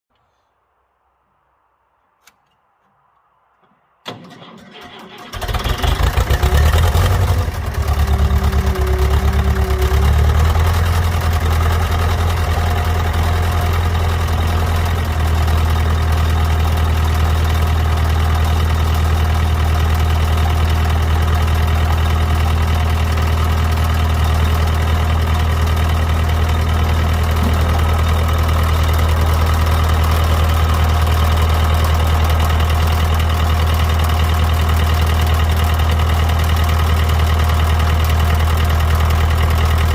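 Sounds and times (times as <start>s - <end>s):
tractor engine idling: 3.6s - 39.9s.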